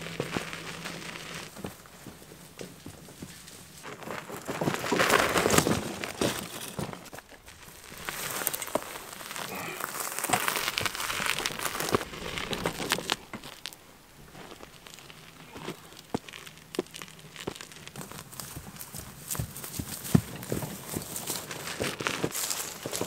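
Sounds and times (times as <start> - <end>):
wheels crunching over gravel: 0.0 - 23.0.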